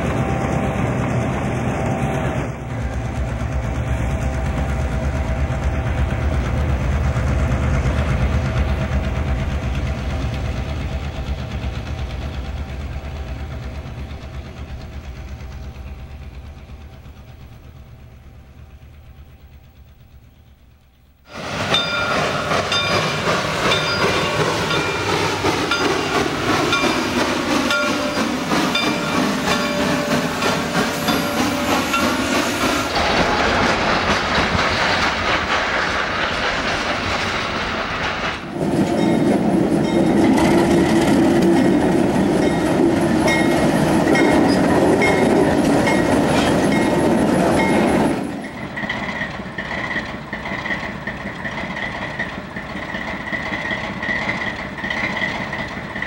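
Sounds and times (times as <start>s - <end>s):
freight train wheels clickety-clack: 0.0s - 56.0s
train low rumble: 0.0s - 56.0s.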